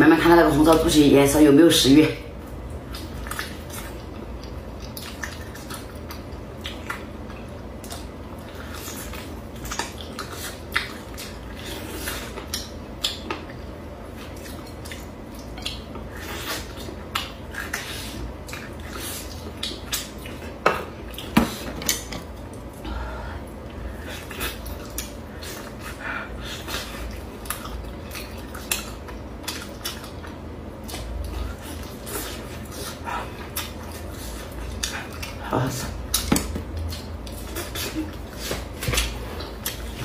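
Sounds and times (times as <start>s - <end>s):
wet chewing and gnawing: 2.4s - 22.8s, 23.8s - 40.0s.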